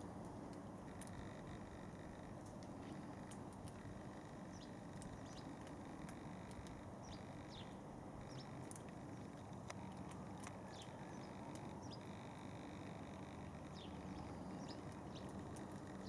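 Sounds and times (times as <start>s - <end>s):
faint ticks: 0.0s - 16.0s
low background rumble: 0.0s - 16.0s
small birds chirping: 0.9s - 16.0s.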